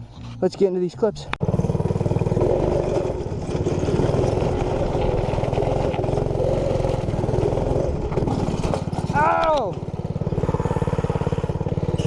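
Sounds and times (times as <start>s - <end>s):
minibike engine running: 1.3s - 12.0s.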